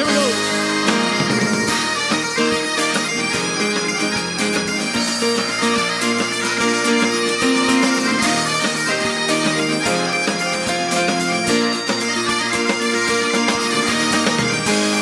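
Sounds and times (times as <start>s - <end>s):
bagpipes: 0.0s - 15.0s
fiddle: 0.0s - 15.0s.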